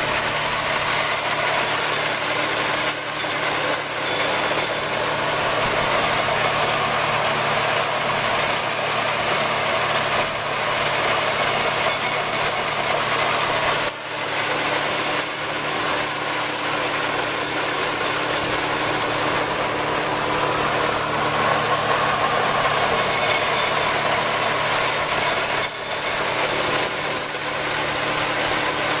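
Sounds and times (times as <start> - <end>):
blower machine hum: 0.0 - 29.0.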